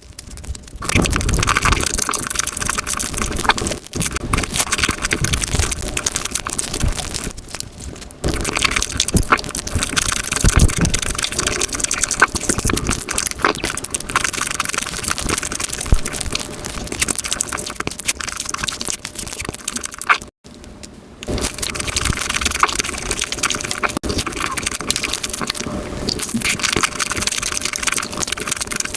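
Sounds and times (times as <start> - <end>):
crunching eating sounds: 0.0 - 28.9.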